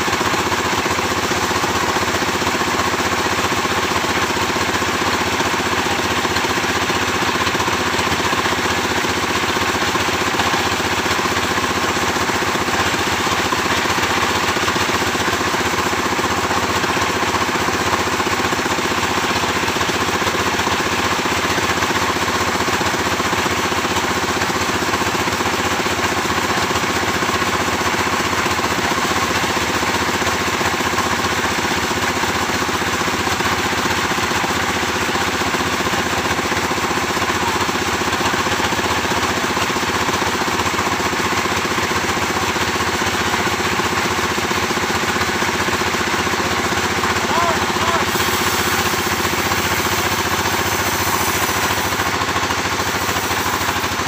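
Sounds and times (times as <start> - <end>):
sawmill engine droning: 0.0 - 54.0.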